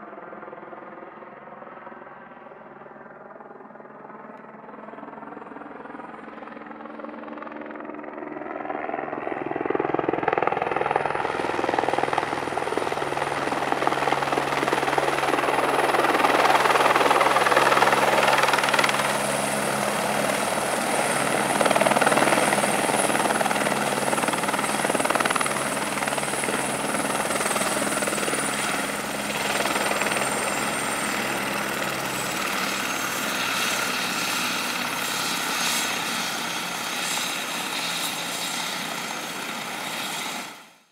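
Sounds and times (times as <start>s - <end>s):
helicopter rotor beat: 0.0s - 40.8s
helicopter turbine whine: 0.0s - 40.9s.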